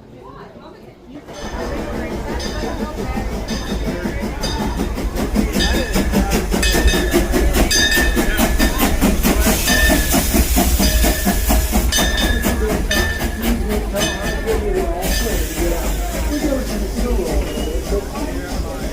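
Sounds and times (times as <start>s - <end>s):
steam train rhythmic clatter: 1.2s - 18.9s
steam hissing: 1.4s - 18.9s.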